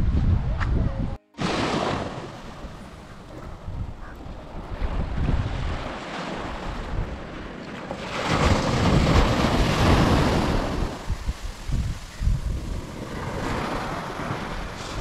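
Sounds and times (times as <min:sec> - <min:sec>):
wind buffeting microphone: 0:00.0 - 0:01.2, 0:02.2 - 0:15.0
sea waves breaking on shore: 0:01.3 - 0:15.0.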